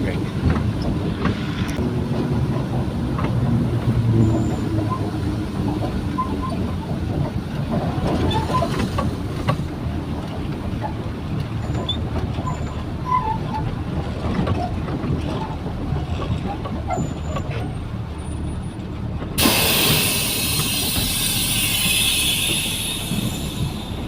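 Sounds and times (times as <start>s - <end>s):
truck engine and road rumble: 0.0s - 24.0s.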